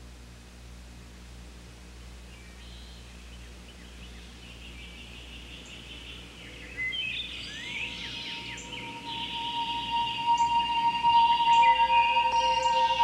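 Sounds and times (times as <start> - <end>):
soft music held tone: 0.0 - 13.0
birds chirping and singing: 2.3 - 13.0.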